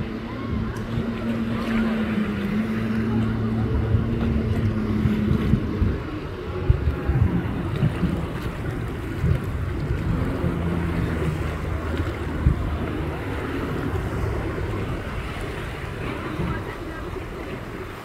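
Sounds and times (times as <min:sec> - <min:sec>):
jet ski engine running: 0:00.0 - 0:18.0
water splashing: 0:00.0 - 0:18.0
wind buffeting microphone: 0:00.0 - 0:18.0.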